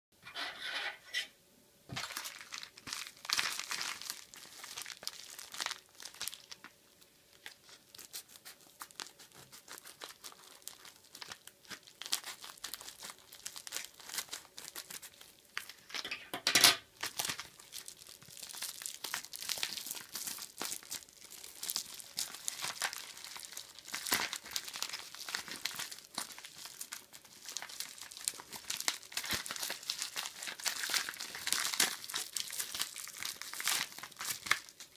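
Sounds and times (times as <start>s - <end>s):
bag tearing open: 1.9s - 6.6s, 7.9s - 15.8s, 17.0s - 34.9s
plastic mailer bag crinkling: 1.9s - 16.0s, 16.8s - 34.9s.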